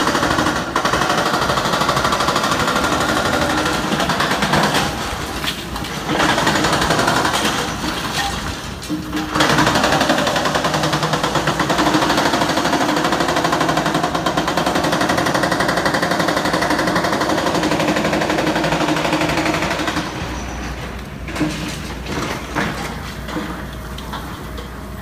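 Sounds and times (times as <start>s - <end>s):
hydraulic breaker hammering concrete: 0.0s - 20.4s.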